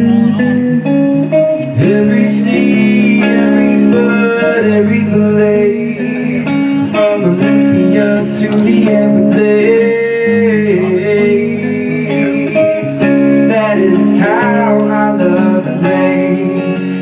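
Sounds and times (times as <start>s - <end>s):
guitar-led song performed live: 0.0s - 17.0s.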